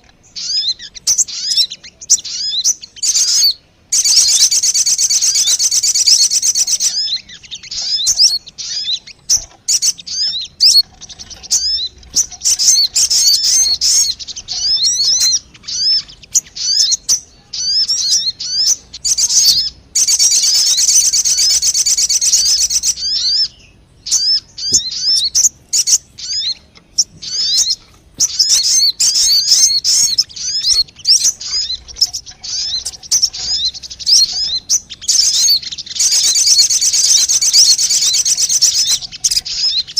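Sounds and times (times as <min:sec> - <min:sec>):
high-pitched bird chattering: 0:00.0 - 0:39.9.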